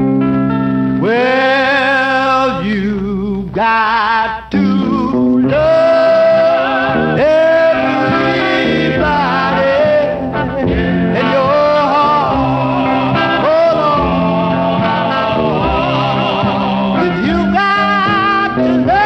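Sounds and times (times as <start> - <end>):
guitar accompaniment: 0.0 - 19.0
vocal group singing gospel: 1.0 - 19.0.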